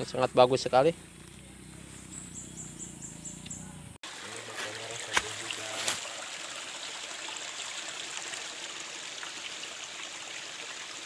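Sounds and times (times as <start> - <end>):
forest ambience hiss: 0.0 - 11.0.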